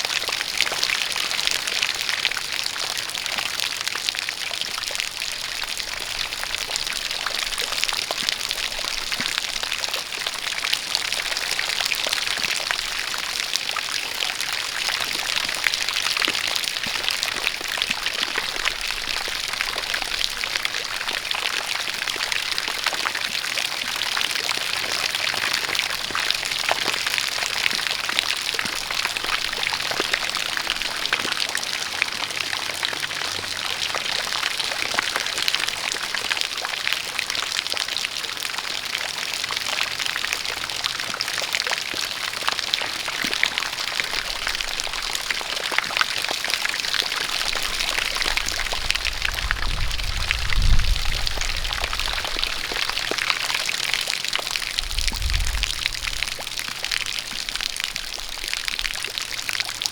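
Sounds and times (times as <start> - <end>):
rain pattering: 0.0 - 59.9
water pouring and splashing: 0.0 - 59.9.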